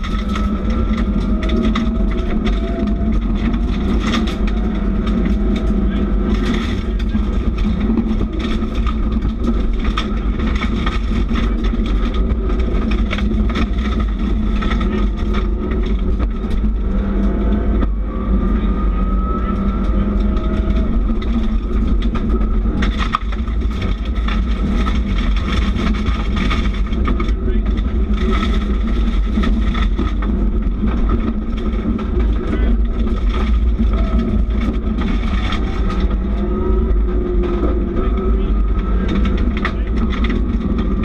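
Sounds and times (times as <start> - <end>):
stones ticking against car underside: 0.0 - 17.9, 19.8 - 37.1
rally car engine running hard: 0.0 - 41.0.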